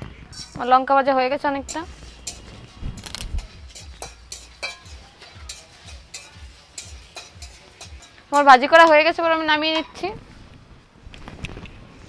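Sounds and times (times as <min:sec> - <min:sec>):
metal spatula scraping spices: 0:00.3 - 0:10.2.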